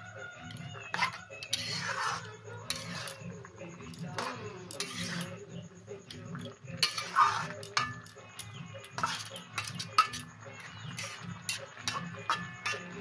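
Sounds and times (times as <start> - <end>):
metal spatula scraping a pan: 0.4 - 13.0.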